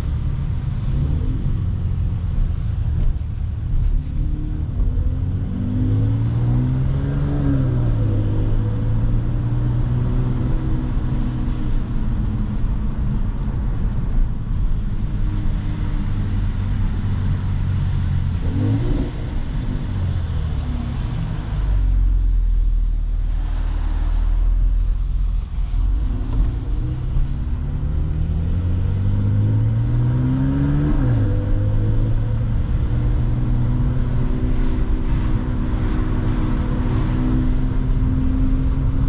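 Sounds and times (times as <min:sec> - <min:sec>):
car engine and exhaust accelerating: 0:00.0 - 0:39.0
deep low rumble: 0:00.0 - 0:39.0.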